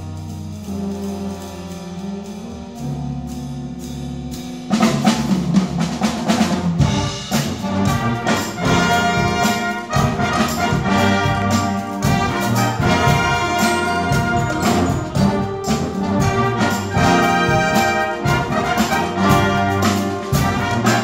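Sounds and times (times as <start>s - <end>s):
brass and percussion band playing: 0.0s - 21.0s.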